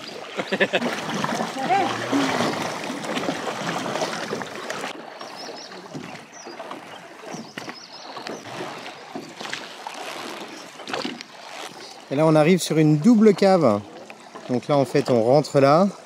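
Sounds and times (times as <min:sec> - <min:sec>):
oars splashing and dripping: 0:00.0 - 0:16.0.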